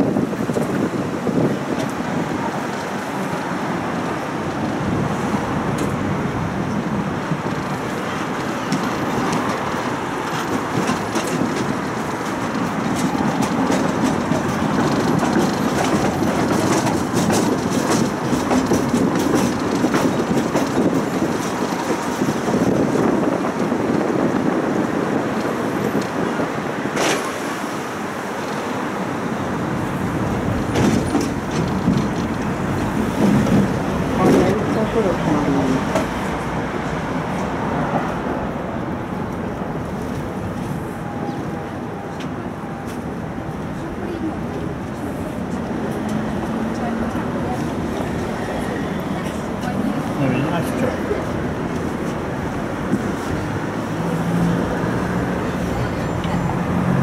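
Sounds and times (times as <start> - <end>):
tram wheels on rails: 0.0 - 57.0.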